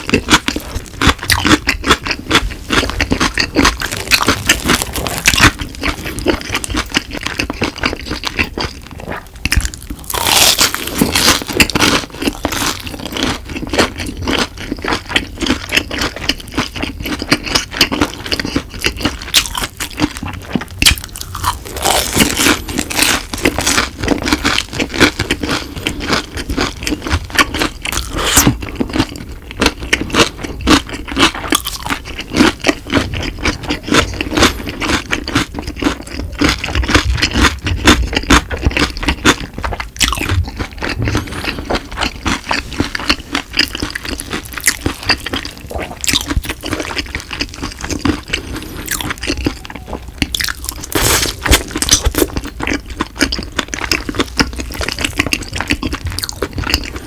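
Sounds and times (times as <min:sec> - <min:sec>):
chewing crispy fried food: 0:00.0 - 0:57.0.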